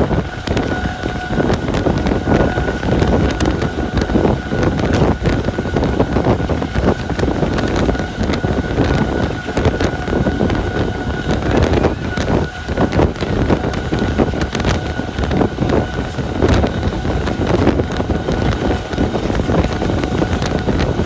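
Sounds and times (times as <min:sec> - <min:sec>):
faint steady whine: 0:00.0 - 0:21.0
train wheels clattering on rails: 0:00.0 - 0:21.0
wind rushing over microphone: 0:00.0 - 0:21.0.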